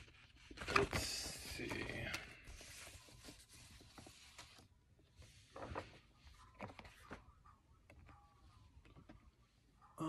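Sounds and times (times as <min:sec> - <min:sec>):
paper rustling: 0:00.0 - 0:08.1.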